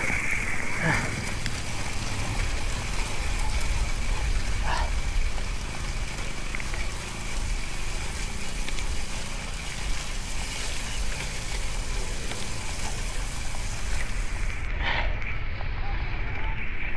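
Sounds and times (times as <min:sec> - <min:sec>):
steady rushing hiss: 0:00.0 - 0:14.8
wind buffeting microphone: 0:00.0 - 0:16.9.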